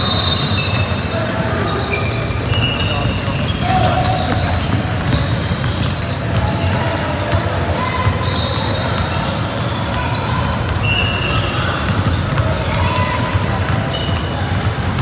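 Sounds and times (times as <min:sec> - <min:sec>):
basketballs bouncing on hardwood floor: 0:02.3 - 0:15.0.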